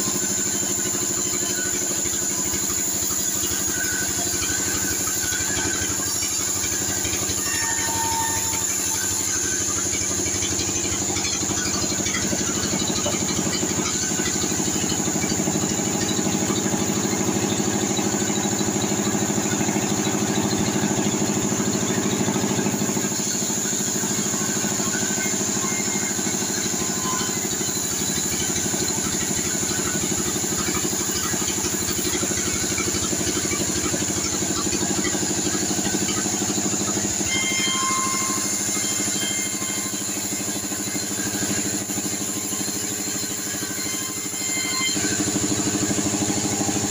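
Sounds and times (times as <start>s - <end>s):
engine drone: 0.0s - 46.9s
high saw whine: 0.0s - 46.9s.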